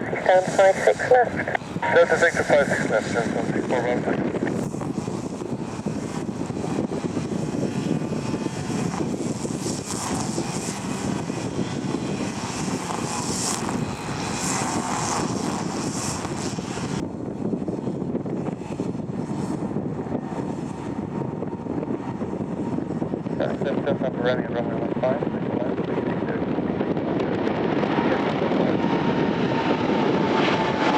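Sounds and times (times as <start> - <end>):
jet engines running: 0.0 - 30.9.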